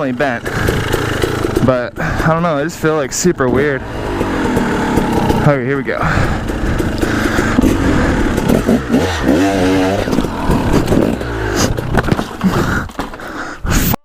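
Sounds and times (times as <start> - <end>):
bike striking rock: 0.0 - 2.6, 3.4 - 13.6
dirt bike engine revving: 0.0 - 13.5.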